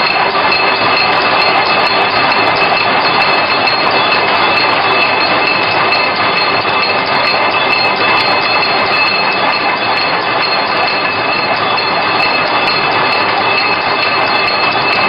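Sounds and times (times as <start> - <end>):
high-pitched machine whine: 0.0 - 15.0
machine metallic clatter: 0.0 - 15.0.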